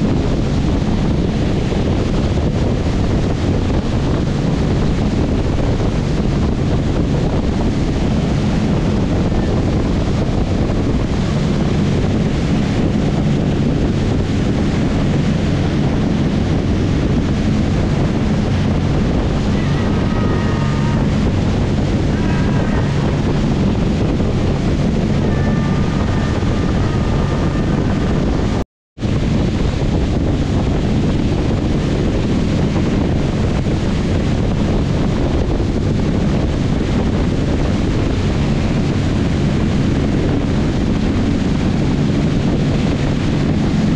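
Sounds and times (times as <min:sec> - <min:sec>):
boat engines droning: 0:00.0 - 0:43.9
boat wake spray rushing: 0:00.0 - 0:43.9
wind buffeting microphone: 0:00.0 - 0:43.9.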